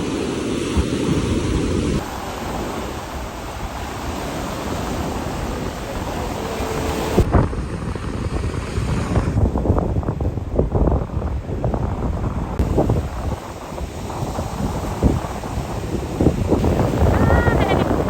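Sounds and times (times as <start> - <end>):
ocean surf hiss: 0.0 - 9.6, 12.6 - 18.0
wind buffeting microphone: 0.0 - 18.0.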